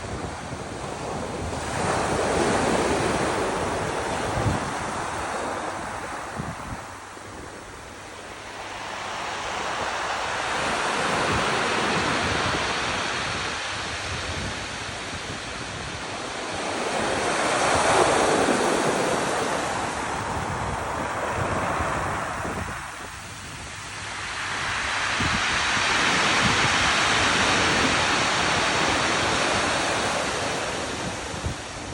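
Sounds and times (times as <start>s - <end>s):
ocean waves washing in: 0.0s - 31.9s.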